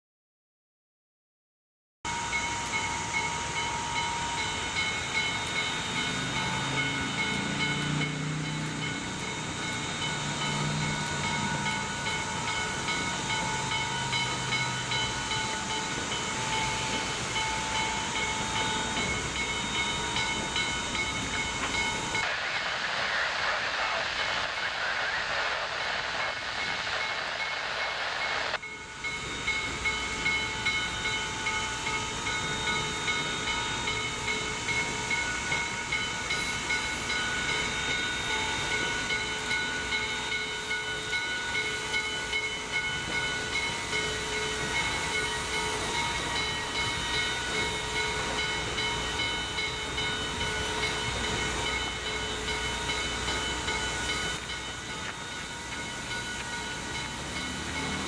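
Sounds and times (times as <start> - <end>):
high-pitched whine: 2.1 - 58.0
steam hissing: 2.1 - 58.0.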